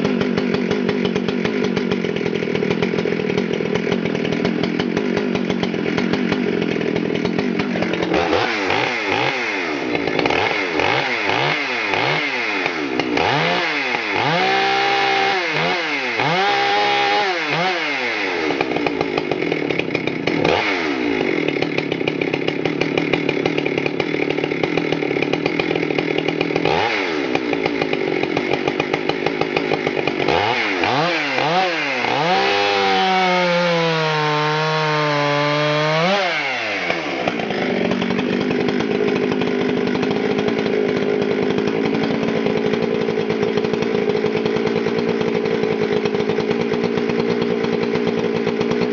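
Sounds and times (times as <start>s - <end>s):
chainsaw cutting log: 0.0s - 48.9s
chainsaw revving: 0.0s - 48.9s.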